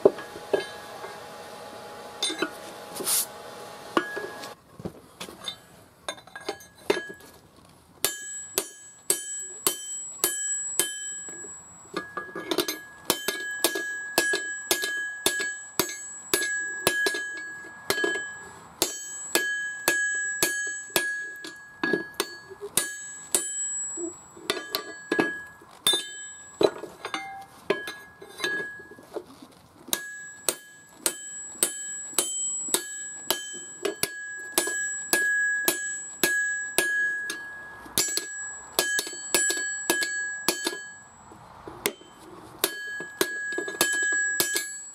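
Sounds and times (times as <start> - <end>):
hammer striking metal on anvil: 0.0 - 1.2, 2.2 - 2.6, 4.0 - 4.6, 8.0 - 29.0, 29.9 - 44.9.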